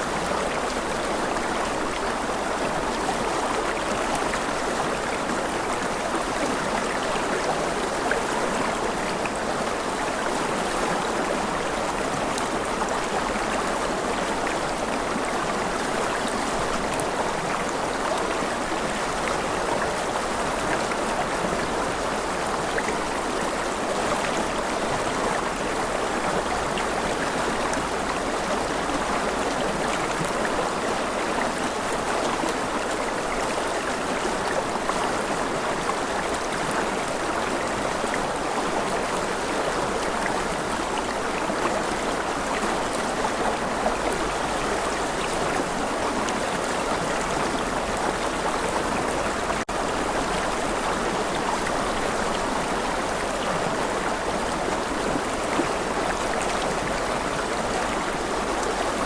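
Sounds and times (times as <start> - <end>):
flowing stream rushing: 0.0 - 59.0.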